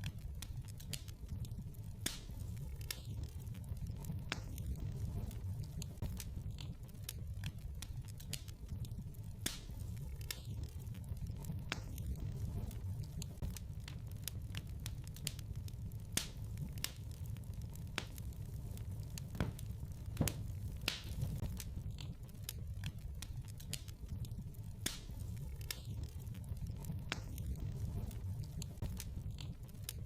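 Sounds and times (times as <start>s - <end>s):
fire pops and snaps: 0.0s - 30.0s
low rumble of burning: 0.0s - 30.0s
wood fire crackling: 0.0s - 30.0s.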